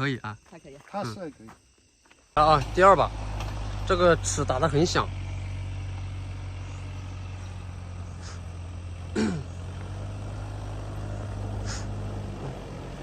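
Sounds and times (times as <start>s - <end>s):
vehicle engine running at low revs: 2.4s - 13.0s.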